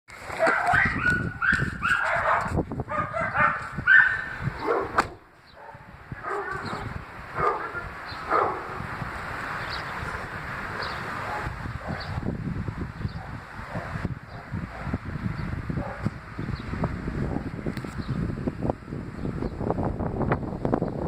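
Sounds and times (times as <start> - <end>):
wind rustling trees: 0.1 - 21.0
wind buffeting microphone: 0.2 - 21.0.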